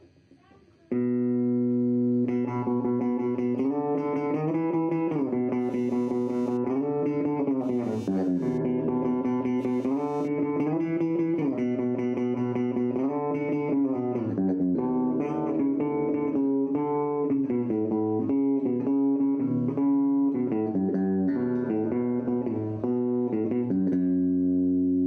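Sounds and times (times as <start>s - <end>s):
electric guitar lead line: 0.9s - 25.0s.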